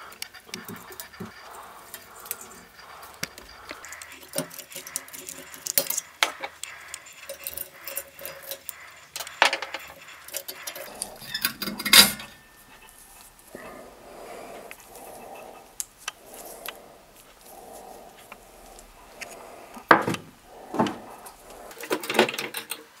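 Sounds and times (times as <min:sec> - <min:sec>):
metallic clinks and scrapes: 0:00.5 - 0:22.9.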